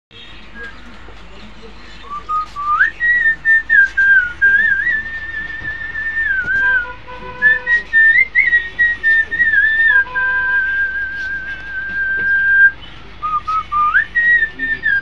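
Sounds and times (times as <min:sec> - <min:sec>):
man whistling a melody: 0:02.1 - 0:15.0.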